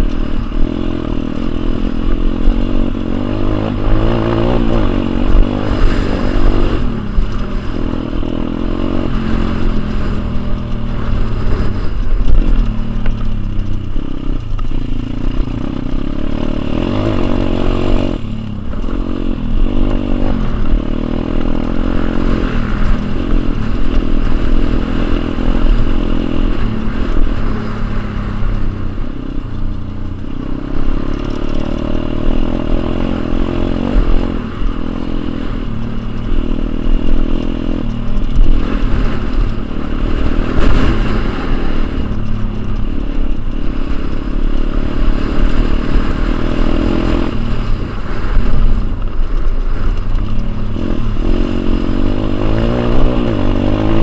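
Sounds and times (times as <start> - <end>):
dirt bike engine revving: 0.0 - 54.0
low rumble and rattle: 0.0 - 54.0.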